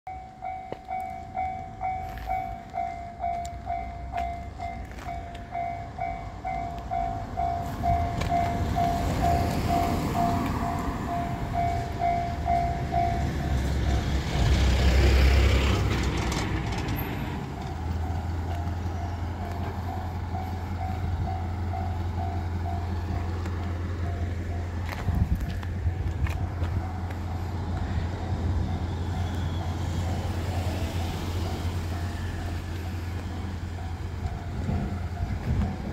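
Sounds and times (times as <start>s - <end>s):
level-crossing alarm bell: 0.1s - 13.8s, 18.0s - 35.8s
train passing: 0.1s - 35.9s.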